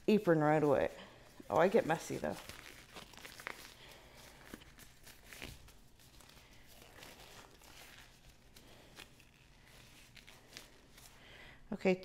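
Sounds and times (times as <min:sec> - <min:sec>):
disposable gloves crinkling: 0:00.6 - 0:11.7.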